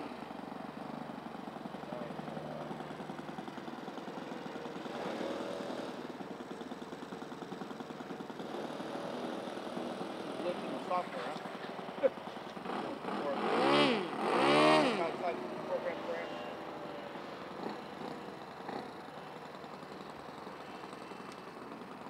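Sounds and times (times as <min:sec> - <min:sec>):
model aircraft propellers buzzing: 0:00.0 - 0:22.0.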